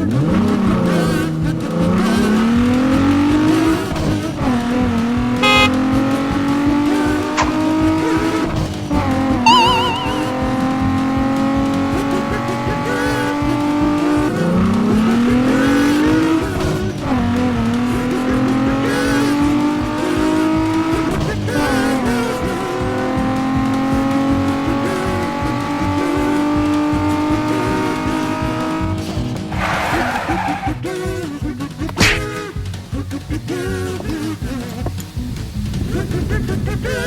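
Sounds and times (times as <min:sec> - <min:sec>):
vehicle motor humming: 0:00.5 - 0:30.9.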